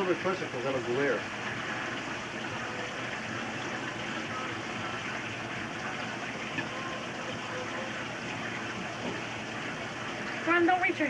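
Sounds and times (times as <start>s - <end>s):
aquarium water rushing: 0.0s - 11.0s.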